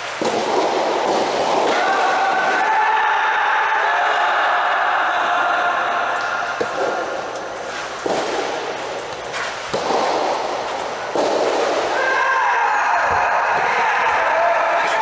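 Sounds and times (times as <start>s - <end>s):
rackets striking balls: 0.0s - 3.9s, 5.2s - 15.0s.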